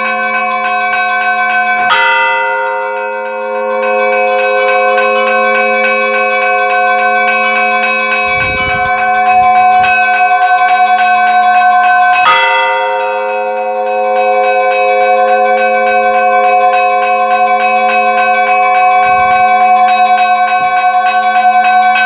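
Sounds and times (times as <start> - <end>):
heavy bell strike: 0.0 - 11.0, 12.2 - 15.7, 17.6 - 20.9
small church bells ringing: 0.0 - 22.0.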